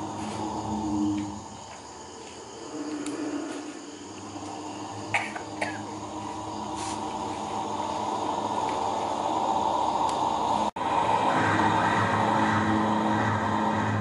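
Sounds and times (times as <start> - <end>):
crackling electronic drone: 0.0 - 14.0.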